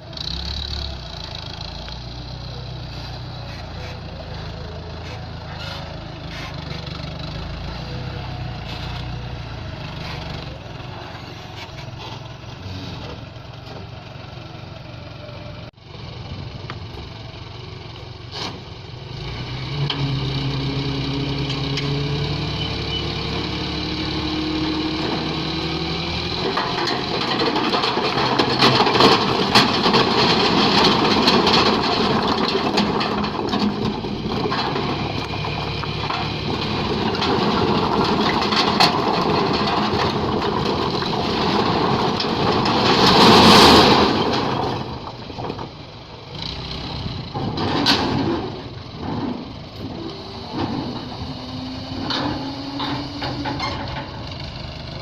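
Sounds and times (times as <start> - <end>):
dump truck diesel engine revving: 0.0 - 55.0.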